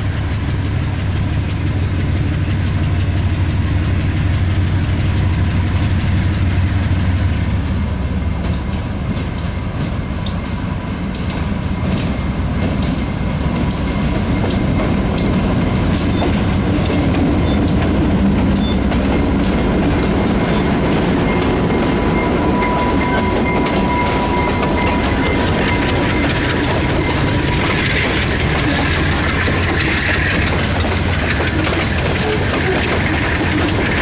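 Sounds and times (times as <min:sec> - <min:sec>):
diesel locomotive rumble: 0:00.0 - 0:34.0
train wheels clattering over rail joints: 0:00.0 - 0:34.0.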